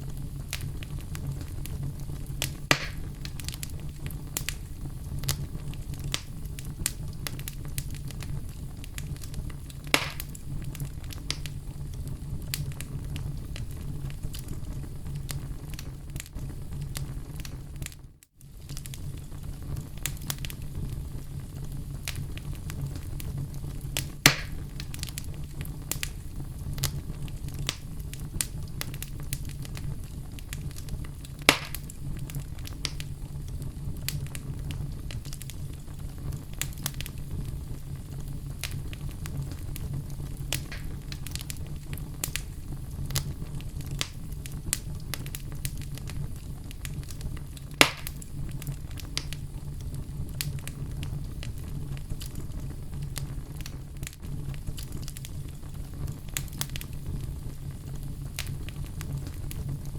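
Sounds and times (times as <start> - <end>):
fire crackles and sharp pops: 0.0 - 59.9
low rumble of flames: 0.0 - 59.9.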